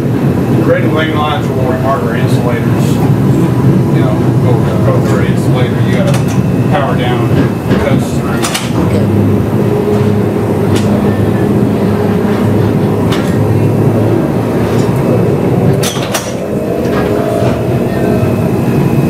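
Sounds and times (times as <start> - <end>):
streetcar rumbling on rails: 0.0 - 19.0.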